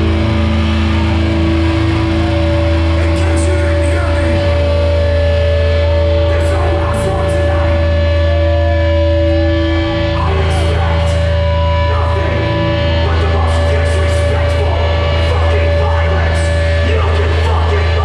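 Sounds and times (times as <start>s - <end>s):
distorted guitars: 0.0s - 18.0s
heavy bass rumble: 0.0s - 18.0s.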